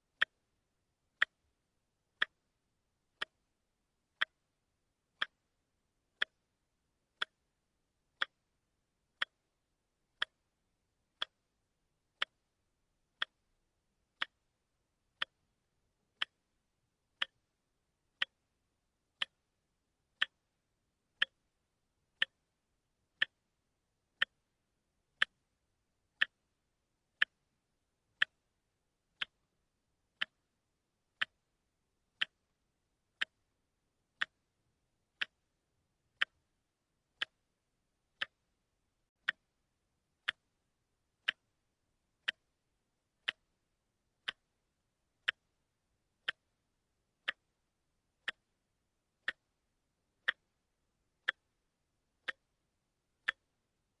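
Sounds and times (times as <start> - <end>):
watch ticking: 0.0 - 54.0.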